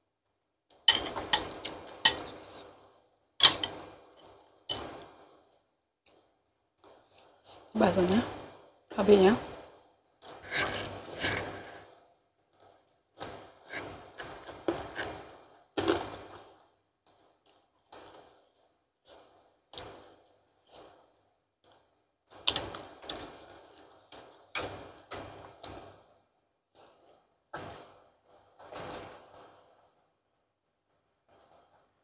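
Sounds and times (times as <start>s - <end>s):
slurping and chewing noodles: 1.1s - 7.7s, 9.6s - 12.0s, 12.6s - 30.0s.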